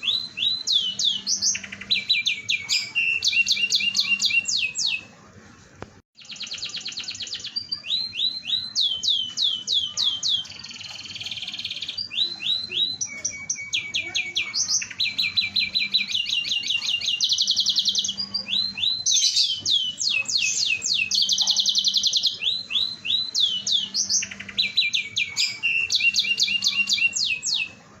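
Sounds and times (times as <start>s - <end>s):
canary singing: 0.0s - 5.2s, 6.2s - 28.0s.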